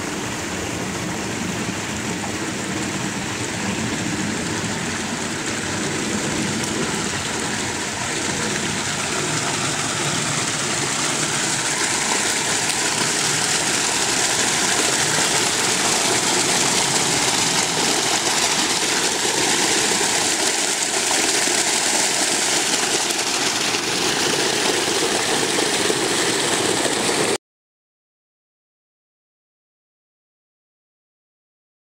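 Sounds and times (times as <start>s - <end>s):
creek water rushing over rocks: 0.0s - 27.4s.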